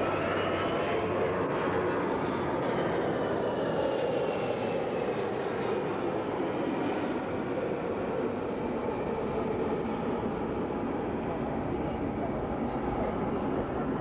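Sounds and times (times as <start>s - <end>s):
jet airliner engines: 0.0s - 14.0s.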